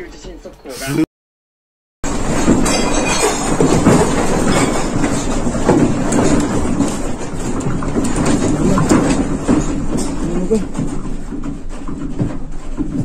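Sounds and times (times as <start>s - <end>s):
building and objects rattling: 2.0s - 13.0s
earthquake rumble: 2.0s - 13.0s.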